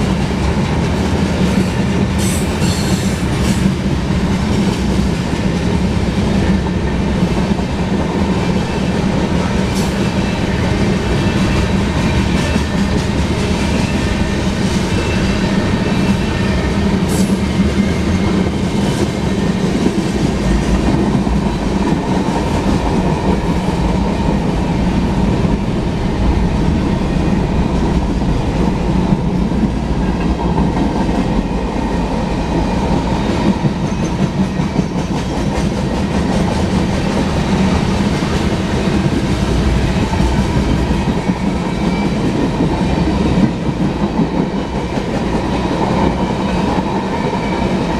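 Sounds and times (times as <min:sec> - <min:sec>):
freight train rolling past: 0:00.0 - 0:47.9.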